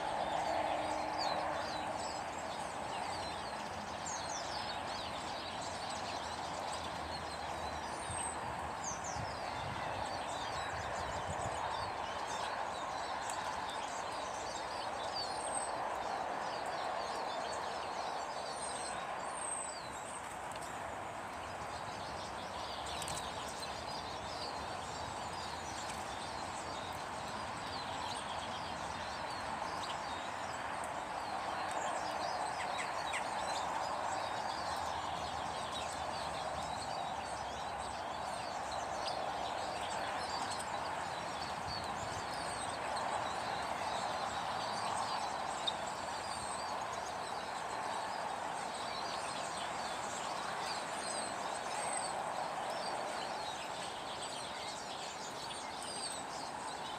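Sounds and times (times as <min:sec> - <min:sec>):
small birds chirping and twittering: 0:00.0 - 0:56.9.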